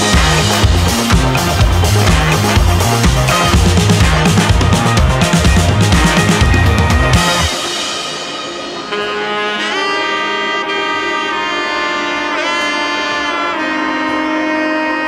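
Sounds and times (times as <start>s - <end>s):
music with long held notes: 0.0s - 15.0s.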